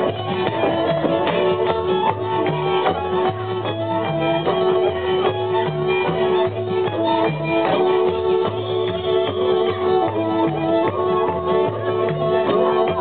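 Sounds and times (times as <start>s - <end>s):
double bass line: 0.0s - 13.0s
fiddle playing melody: 0.0s - 13.0s.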